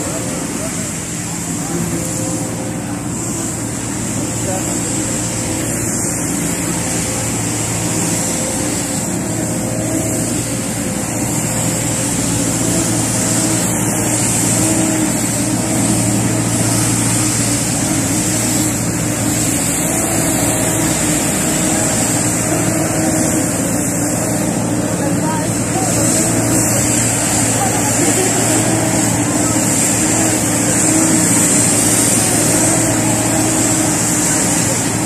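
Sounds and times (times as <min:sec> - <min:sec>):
idling engine hum: 0:00.0 - 0:35.0
street traffic noise: 0:00.0 - 0:35.0.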